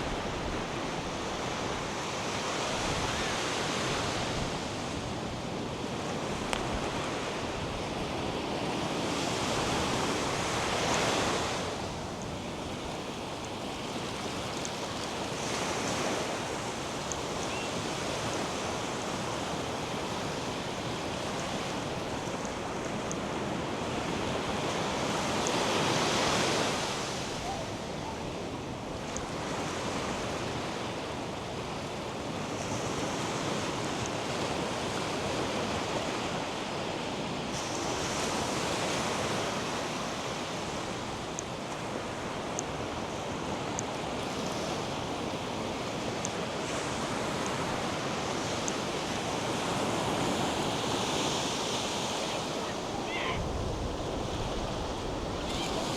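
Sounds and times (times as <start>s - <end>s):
surf breaking on a beach: 0.0s - 55.9s.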